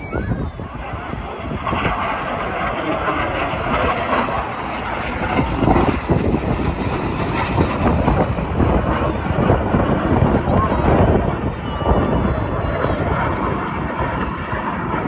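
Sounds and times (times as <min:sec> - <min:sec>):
jets flying past: 0:00.0 - 0:15.0
wind buffeting microphone: 0:00.0 - 0:15.0.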